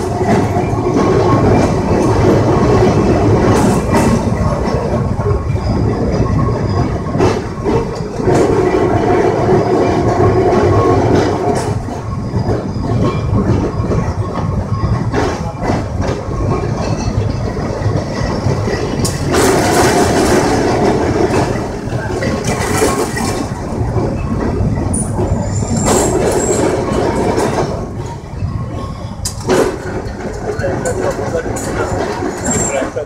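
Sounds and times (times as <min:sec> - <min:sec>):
tram clatter: 0:00.0 - 0:33.0
tram wheels rumbling on rails: 0:00.0 - 0:33.0.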